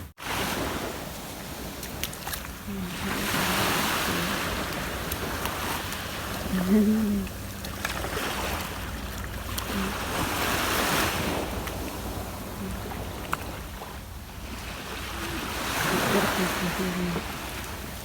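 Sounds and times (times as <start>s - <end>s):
sea waves washing in: 0.0s - 18.0s.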